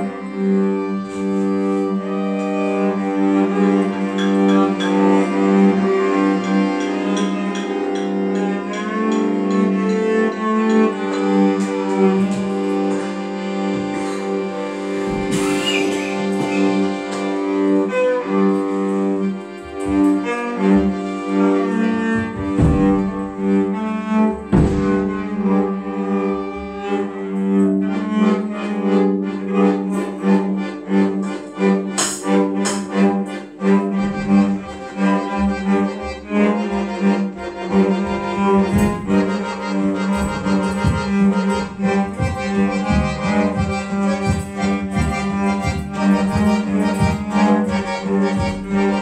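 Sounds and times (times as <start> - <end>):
cello bowing sustained notes: 0.0 - 49.0.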